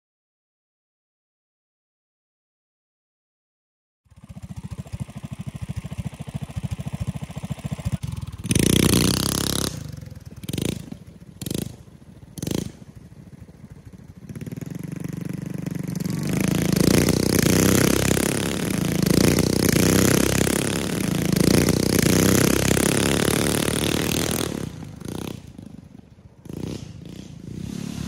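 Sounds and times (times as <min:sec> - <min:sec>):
small engines idling and revving: 0:04.1 - 0:28.0.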